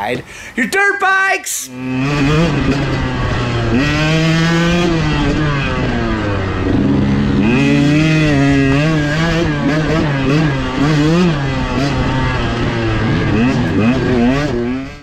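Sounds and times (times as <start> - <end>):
dirt bike engine revving: 1.7 - 15.0.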